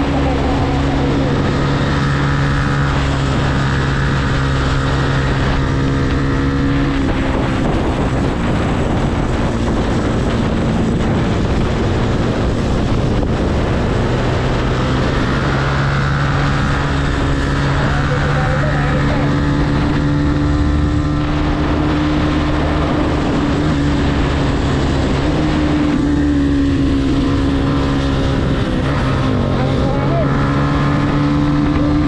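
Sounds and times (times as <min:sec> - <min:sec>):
motorcycle engine running: 0:00.0 - 0:32.0
road noise: 0:00.0 - 0:32.0
wind noise: 0:00.0 - 0:32.0.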